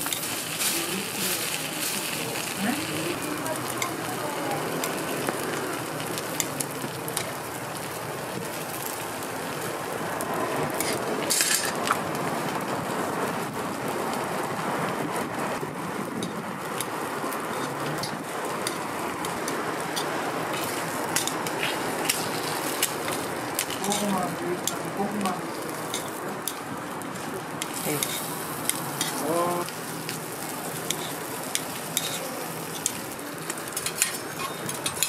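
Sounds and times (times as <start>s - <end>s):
egg and bread sizzling on griddle: 0.0s - 35.0s.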